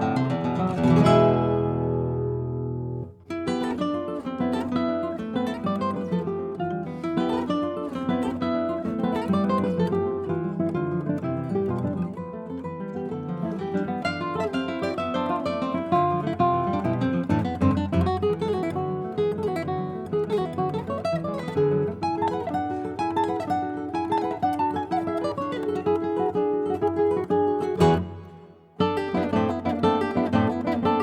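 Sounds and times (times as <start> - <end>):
classical guitar duo: 0.0 - 31.0.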